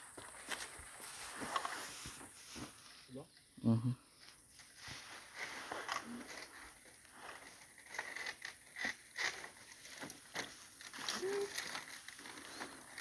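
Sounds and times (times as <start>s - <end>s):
dry fronds and sticks rustling: 0.0s - 3.1s, 4.2s - 13.0s.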